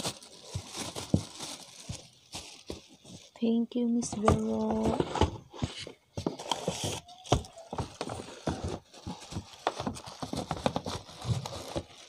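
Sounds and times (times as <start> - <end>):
packaging rustling: 0.0 - 3.4, 4.2 - 12.0.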